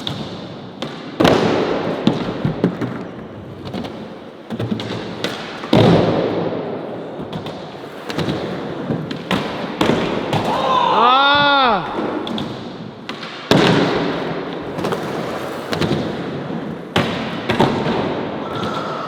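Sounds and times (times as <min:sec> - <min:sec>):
skateboard clacks: 0:00.0 - 0:06.6, 0:07.2 - 0:10.6, 0:11.4 - 0:19.0
skateboard slapping on concrete: 0:00.0 - 0:06.6, 0:07.2 - 0:10.7, 0:11.4 - 0:19.0
skateboard wheels rolling: 0:00.0 - 0:19.0.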